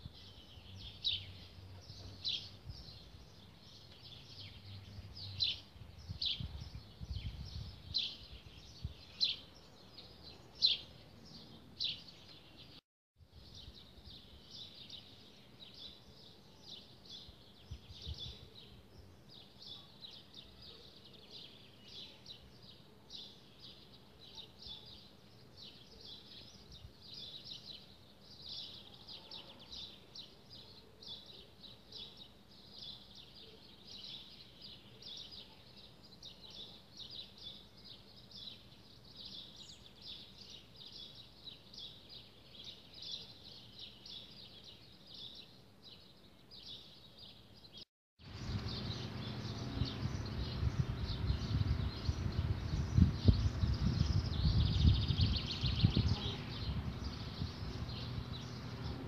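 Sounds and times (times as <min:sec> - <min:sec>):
garden birds chirping: 0:00.0 - 0:59.0.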